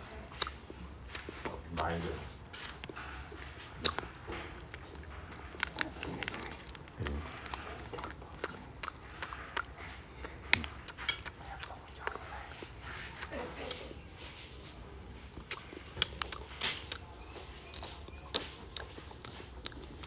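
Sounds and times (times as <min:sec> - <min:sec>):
man chewing noodles: 0:00.0 - 0:13.8, 0:14.4 - 0:20.0.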